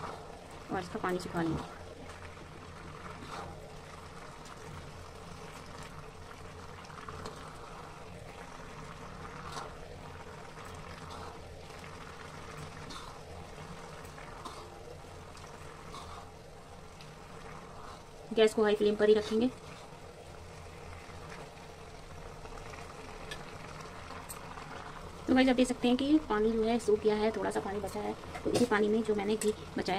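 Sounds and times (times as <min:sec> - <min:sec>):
food bubbling in a pan: 0:00.0 - 0:29.9.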